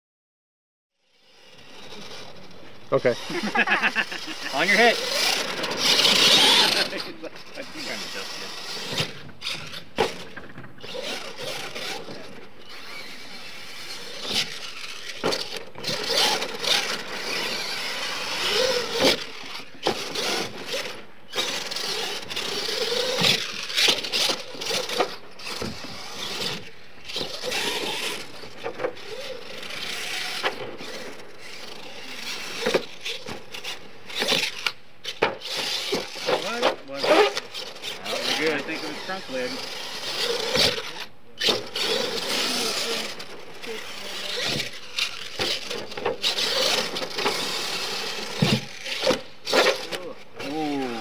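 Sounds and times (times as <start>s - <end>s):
toy truck motor revving: 1.0s - 51.0s
tyres scraping in loose dirt: 1.2s - 51.0s.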